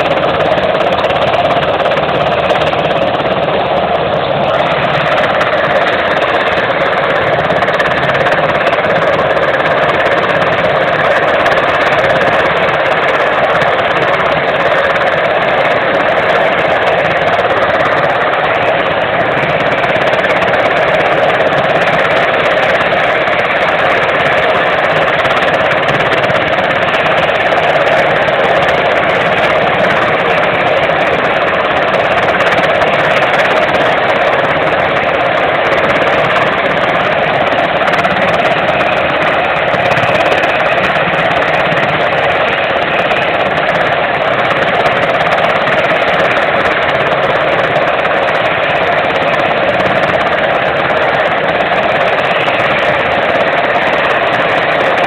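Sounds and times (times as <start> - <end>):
helicopter turbine and rotor: 0.0 - 55.0.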